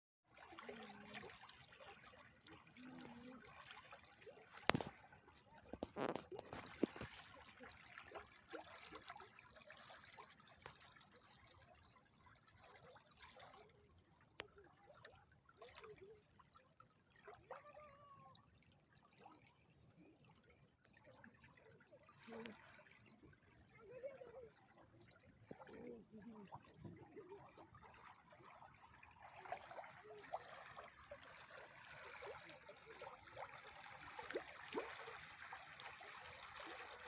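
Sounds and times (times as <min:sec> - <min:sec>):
faint trickle of water: 0:00.3 - 0:37.0.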